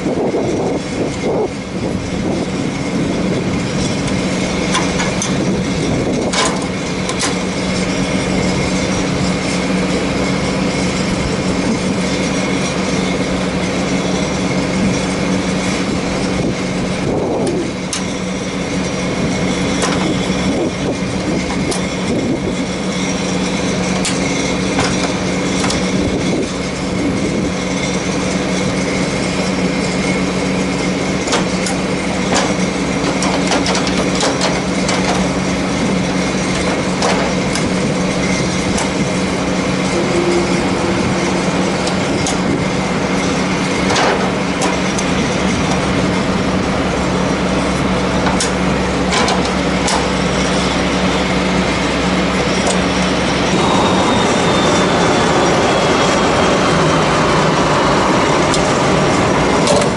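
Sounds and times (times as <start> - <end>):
steady machinery drone: 0.0 - 59.9.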